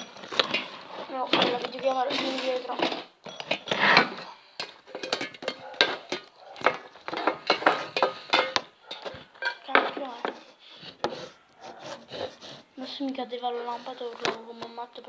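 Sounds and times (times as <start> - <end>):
hard objects clattering: 0.0 - 15.0.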